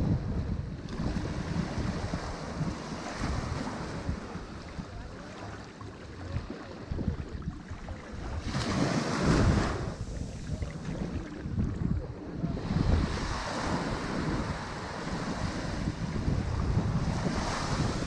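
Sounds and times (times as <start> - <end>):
sea surf washing onto beach: 0.9 - 18.0
wave breaking: 0.9 - 18.0.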